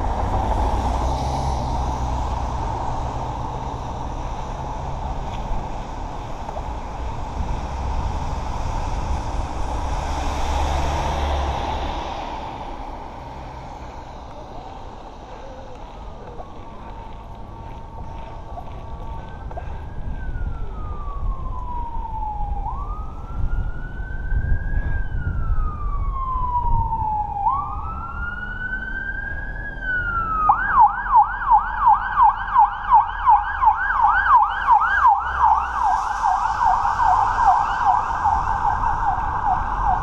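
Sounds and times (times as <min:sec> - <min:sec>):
emergency vehicle siren: 0:00.0 - 0:40.0.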